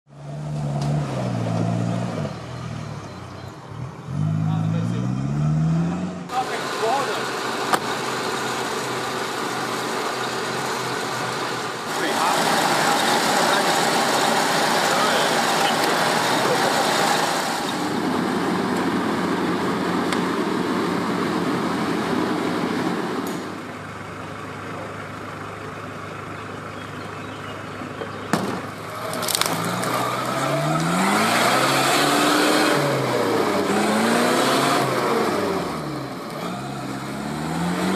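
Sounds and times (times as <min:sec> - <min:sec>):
engine revving: 0:00.1 - 0:23.6, 0:28.3 - 0:37.9
off-road vehicle engine: 0:00.1 - 0:37.9.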